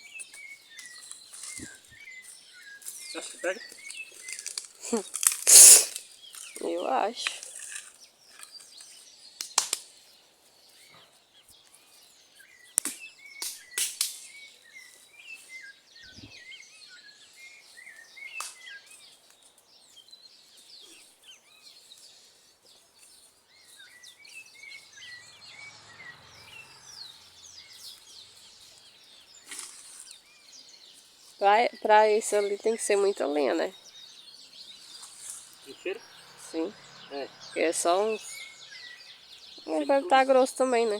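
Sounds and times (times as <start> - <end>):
birds chirping: 0.0 - 9.4, 10.0 - 40.9.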